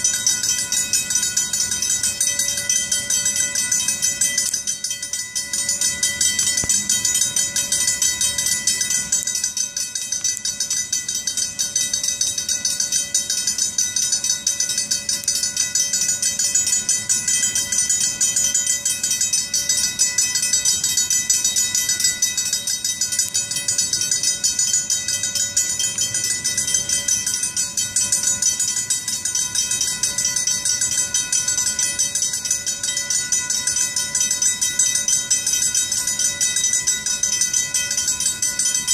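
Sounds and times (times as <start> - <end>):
railroad crossing bells ringing: 0.0 - 38.9.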